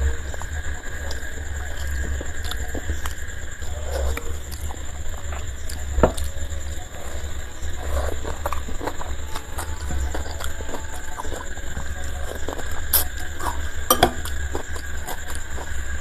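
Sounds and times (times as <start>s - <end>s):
chewing: 0.0s - 16.0s
faint high whine: 0.0s - 16.0s
fingers mixing food on a plate: 0.0s - 16.0s
steady low hum: 0.0s - 16.0s.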